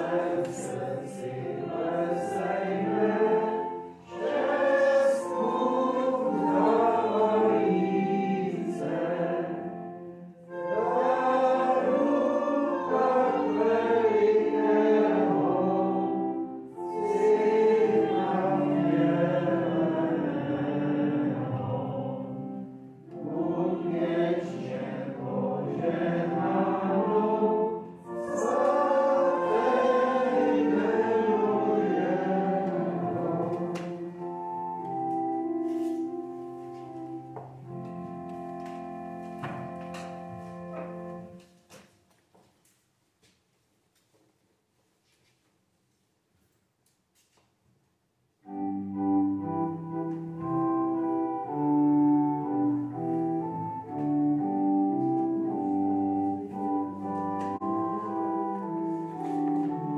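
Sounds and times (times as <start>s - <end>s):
congregation singing a hymn: 0.0s - 41.8s, 48.4s - 59.9s
instrumental accompaniment: 0.0s - 41.9s, 48.4s - 59.9s.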